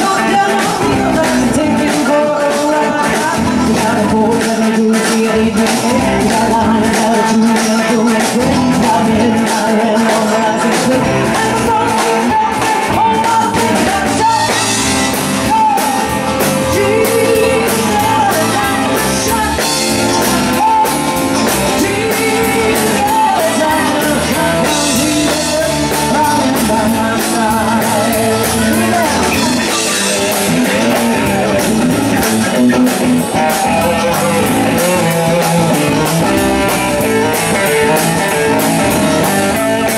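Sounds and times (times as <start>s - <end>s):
bass: 0.0s - 39.9s
drums: 0.0s - 39.9s
electric guitars: 0.0s - 39.9s
keyboards: 0.0s - 39.9s
woman singing lead: 0.0s - 39.9s.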